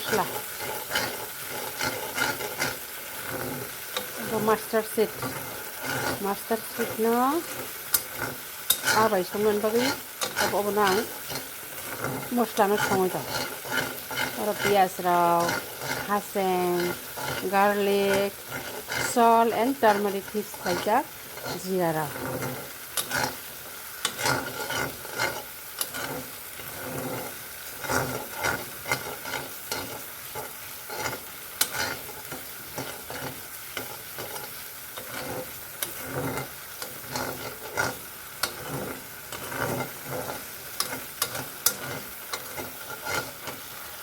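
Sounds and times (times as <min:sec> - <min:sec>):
food sizzling in hot oil: 0:00.0 - 0:44.0
spatula scraping a pan: 0:00.0 - 0:44.0.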